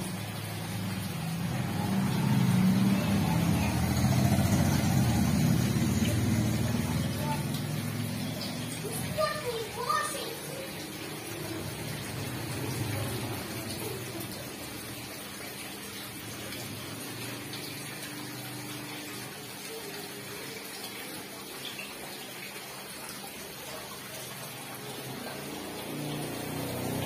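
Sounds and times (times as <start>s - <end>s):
water splashing into pond: 0.0s - 27.0s.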